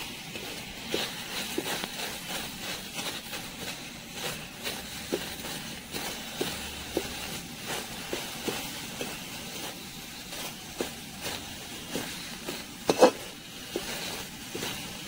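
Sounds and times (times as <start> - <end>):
leaves frying hiss: 0.0 - 15.0.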